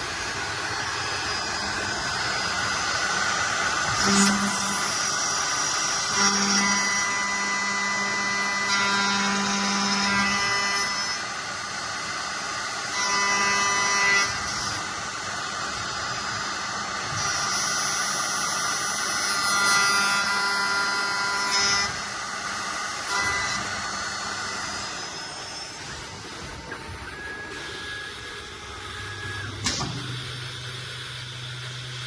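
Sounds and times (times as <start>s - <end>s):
milling machine spindle whine: 0.0s - 32.0s.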